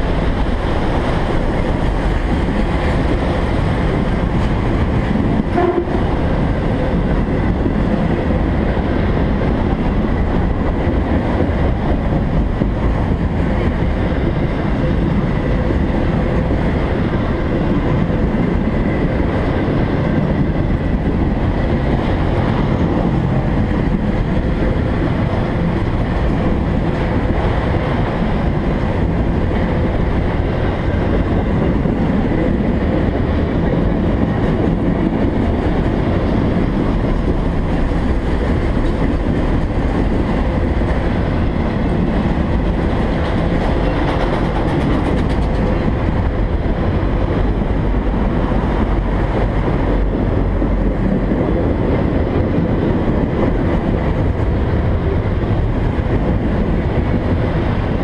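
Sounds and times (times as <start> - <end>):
freight cars rumbling on rails: 0.0 - 58.0.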